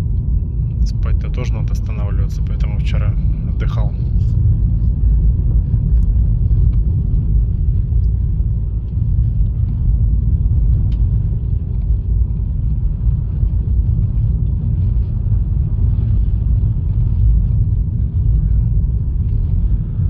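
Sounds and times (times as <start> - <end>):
road and engine rumble in car cabin: 0.0 - 20.0.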